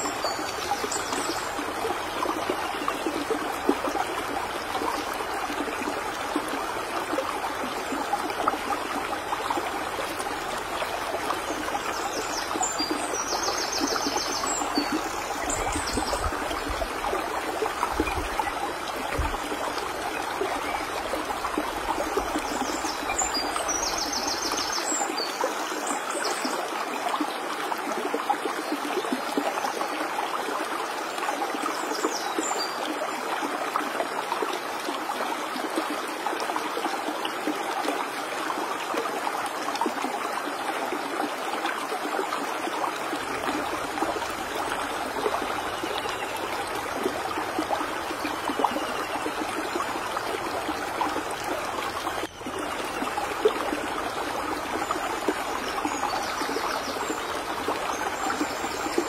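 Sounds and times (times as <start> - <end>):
stream water rushing over rocks: 0.0 - 59.0.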